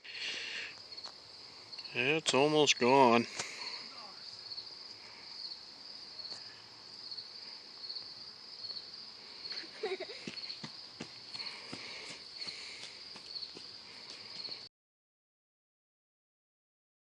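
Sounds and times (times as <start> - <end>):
crickets chirping: 0.0 - 14.7.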